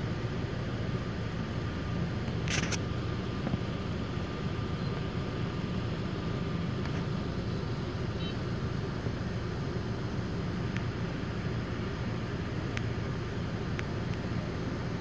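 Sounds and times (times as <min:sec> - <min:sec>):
car engine rumble inside cabin: 0:00.0 - 0:15.0
street traffic: 0:00.0 - 0:15.0.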